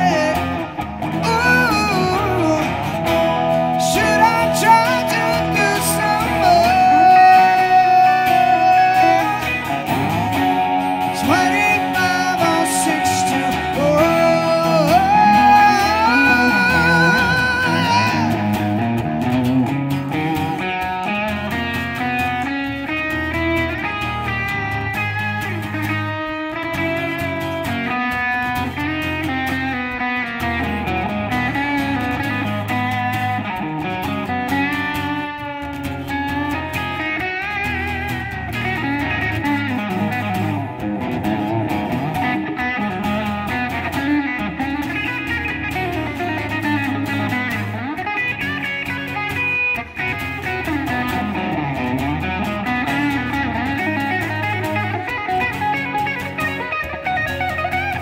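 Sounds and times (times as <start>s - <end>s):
acoustic guitar: 0.0s - 58.0s
electric guitar sliding notes: 0.0s - 58.0s.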